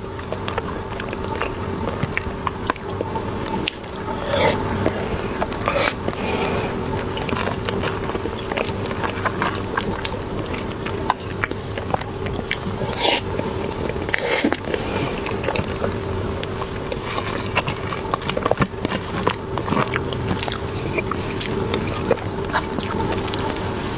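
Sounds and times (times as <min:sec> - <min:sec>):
low background hum: 0:00.0 - 0:23.9
person chewing soft buns: 0:00.0 - 0:23.9.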